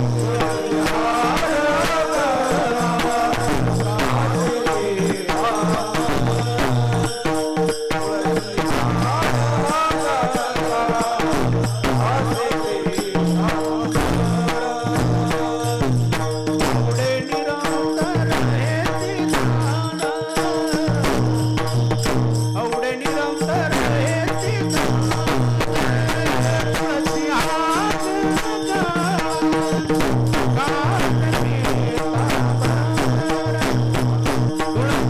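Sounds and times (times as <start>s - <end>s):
man singing: 0.0s - 35.0s
percussion beat: 0.0s - 35.0s.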